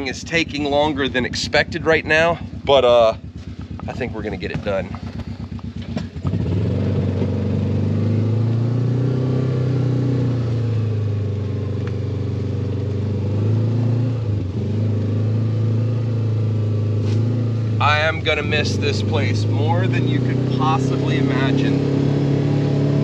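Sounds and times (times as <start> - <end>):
utility vehicle engine: 0.0 - 23.0.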